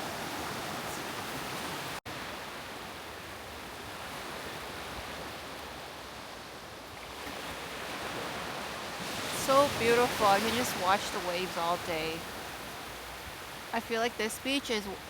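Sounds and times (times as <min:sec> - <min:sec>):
sea waves washing onto sand: 0:00.0 - 0:15.0
wind: 0:00.0 - 0:15.0.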